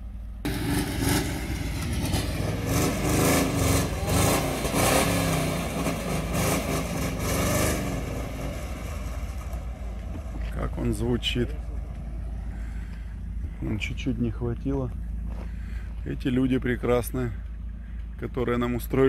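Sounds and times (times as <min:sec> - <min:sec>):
car engine revving unevenly: 0:00.4 - 0:16.0.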